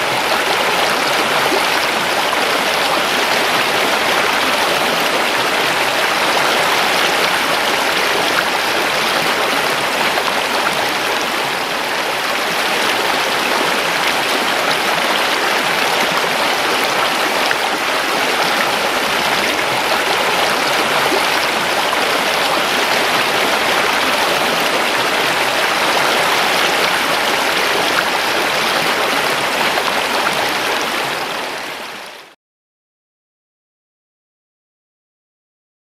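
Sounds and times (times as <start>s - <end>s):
river water flowing: 0.0s - 32.3s.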